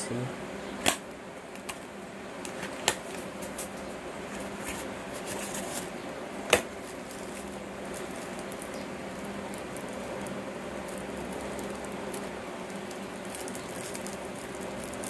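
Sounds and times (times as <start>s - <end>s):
steady low hum: 0.0s - 15.0s
plastic crinkling: 2.4s - 15.0s.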